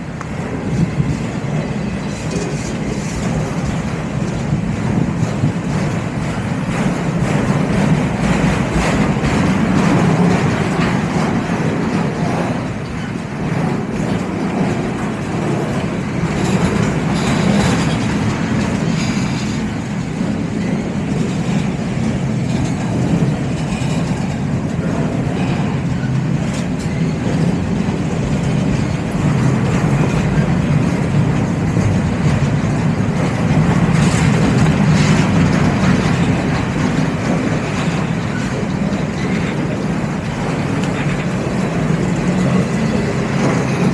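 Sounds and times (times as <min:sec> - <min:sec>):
train cars rumbling on rails: 0:00.0 - 0:43.9.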